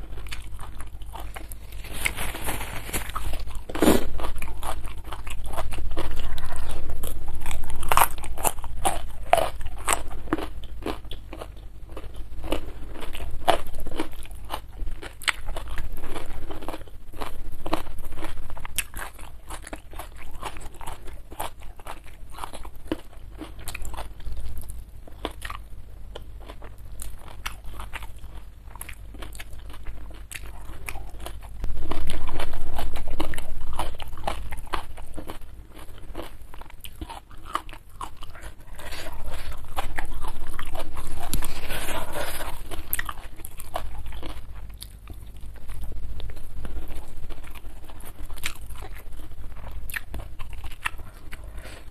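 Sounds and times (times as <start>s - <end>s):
chewing and crunching food: 0.0s - 51.9s.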